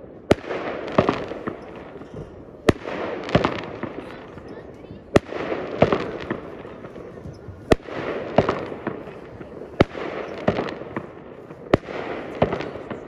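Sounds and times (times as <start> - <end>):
fireworks bangs: 0.0 - 13.0
fireworks crackling and pops: 0.0 - 13.0.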